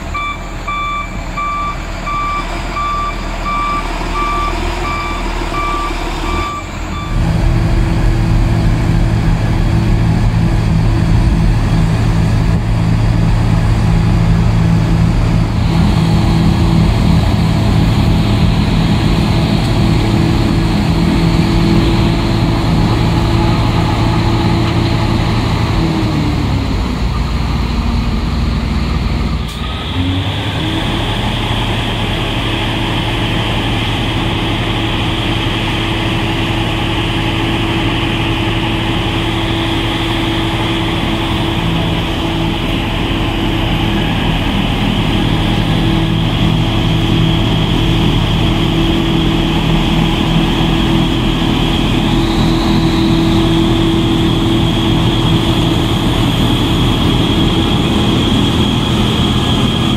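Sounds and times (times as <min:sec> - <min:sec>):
truck diesel engine: 0:00.0 - 0:59.9
snowblower engine running hard: 0:07.1 - 0:28.3, 0:29.6 - 0:59.9.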